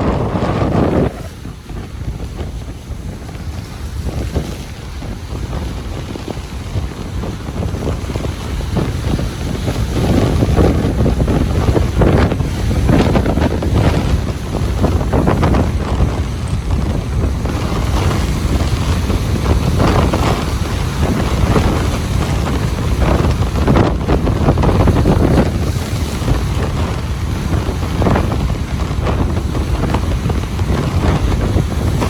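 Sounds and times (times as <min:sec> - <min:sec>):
ocean surf breaking on beach: 0:00.0 - 0:32.0
wind rumbling on microphone: 0:00.0 - 0:32.0.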